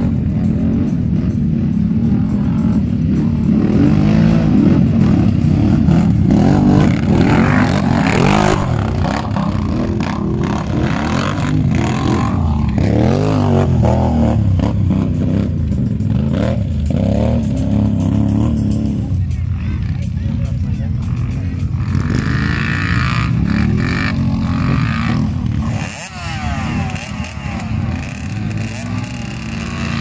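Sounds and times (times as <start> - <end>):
quad engine revving: 0.0 - 19.2, 21.2 - 30.0.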